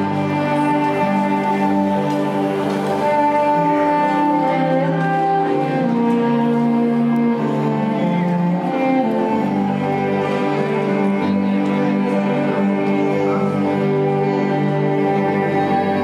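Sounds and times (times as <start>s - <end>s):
orchestral strings music: 0.0s - 16.0s.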